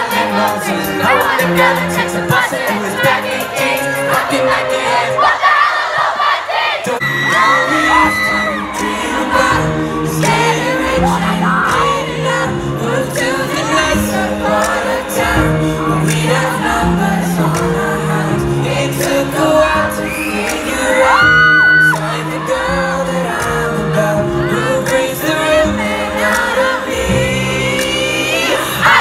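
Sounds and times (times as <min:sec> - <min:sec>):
audience singing along and shouting: 0:00.0 - 0:29.0
band singing over backing music: 0:00.0 - 0:29.0.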